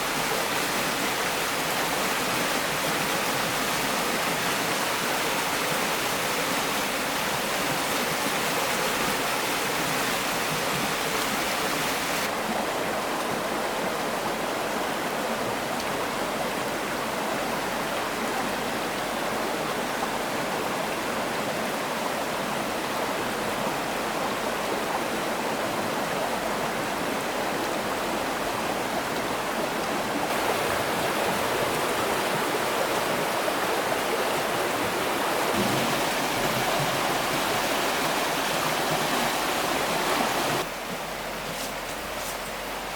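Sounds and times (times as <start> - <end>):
flowing water rushing: 0.0 - 42.9.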